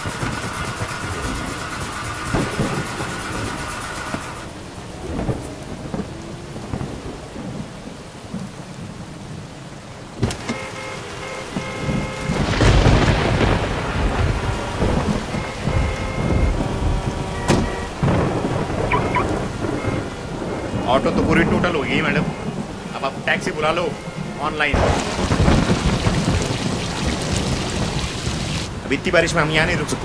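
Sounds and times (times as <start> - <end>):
heavy rain falling: 0.0 - 30.0
thunder crack and rumble: 0.0 - 30.0.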